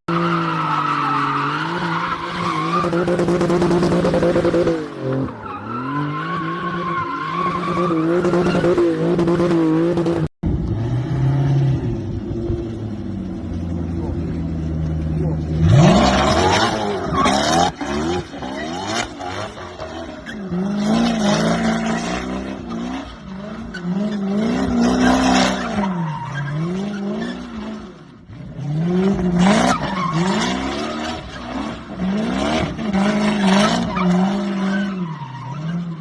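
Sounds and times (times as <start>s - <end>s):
car engine revving: 0.2s - 36.0s.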